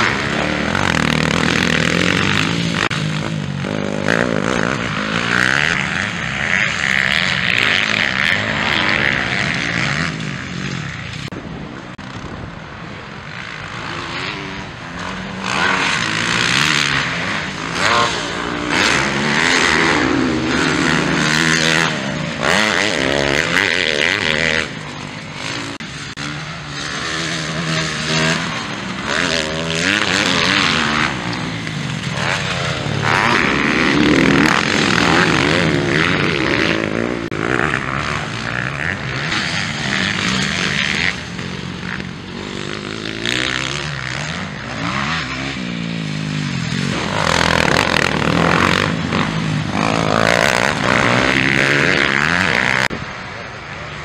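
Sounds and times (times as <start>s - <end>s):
motocross engines revving: 0.0s - 54.0s.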